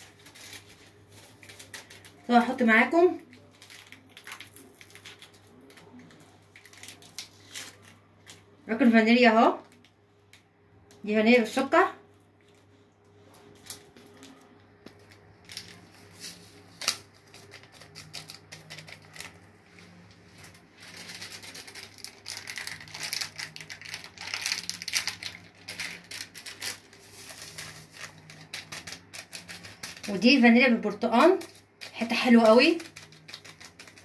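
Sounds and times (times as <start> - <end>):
plastic packets crinkling: 0.0 - 8.6, 13.4 - 34.0.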